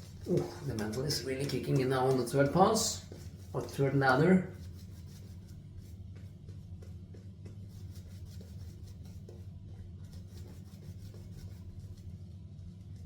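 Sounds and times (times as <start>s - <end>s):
low steady hum: 0.0s - 13.0s
shaving brush scratching on face: 0.0s - 13.0s.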